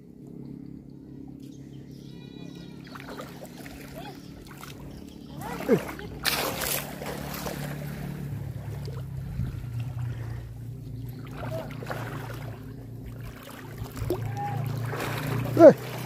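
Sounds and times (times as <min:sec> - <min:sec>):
low engine hum: 0:00.0 - 0:16.0
wind: 0:00.0 - 0:16.0
sea waves washing: 0:02.6 - 0:16.0.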